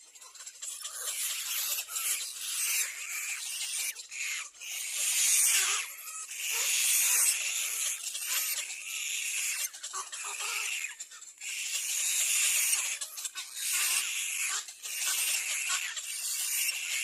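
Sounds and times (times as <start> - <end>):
chicks giving hoarse hissing squeals: 0.2 - 17.0.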